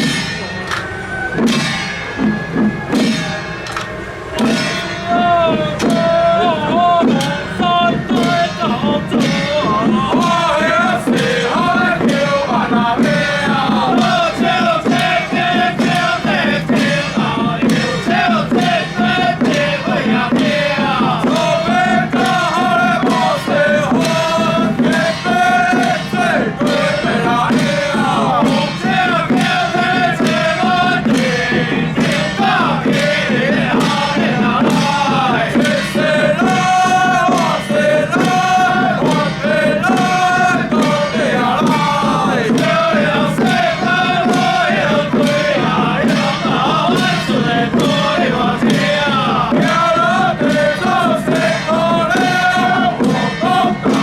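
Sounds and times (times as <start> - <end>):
regular percussion strikes: 0.0 - 54.0
group chanting in unison: 4.3 - 54.0.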